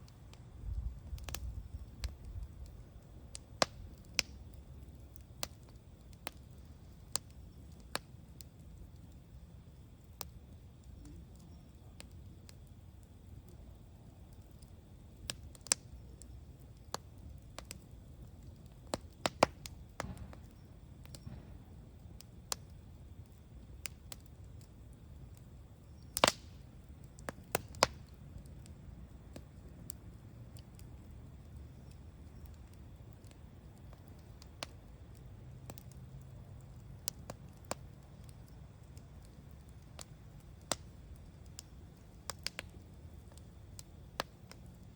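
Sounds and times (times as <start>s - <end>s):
campfire crackling and popping: 0.0s - 44.9s
low rumble of burning fire: 0.0s - 44.9s.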